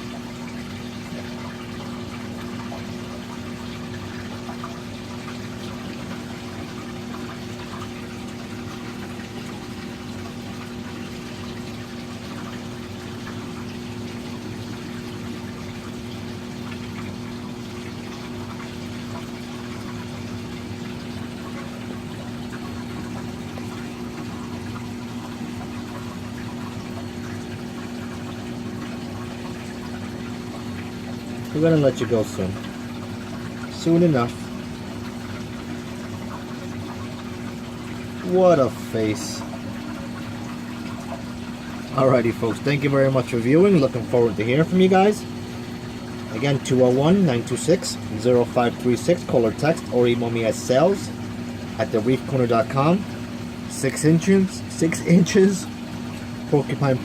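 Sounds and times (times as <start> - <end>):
circulating water rushing: 0.0 - 57.0
water pump humming: 0.0 - 57.0.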